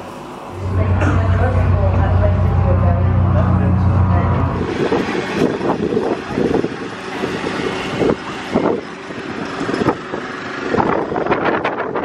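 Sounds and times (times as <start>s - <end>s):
aircraft engine roaring: 0.3s - 12.0s
wind buffeting microphone: 0.6s - 12.0s.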